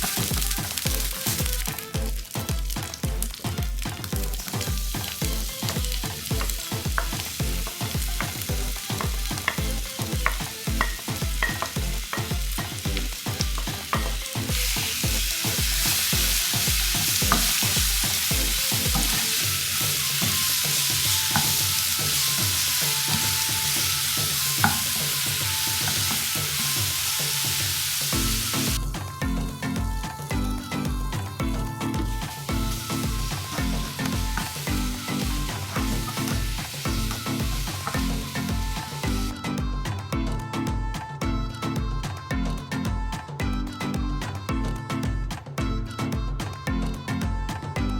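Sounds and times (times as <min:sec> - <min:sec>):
food sizzling in hot oil: 0:00.0 - 0:29.2, 0:30.2 - 0:39.4
background music with steady beat: 0:00.0 - 0:47.9.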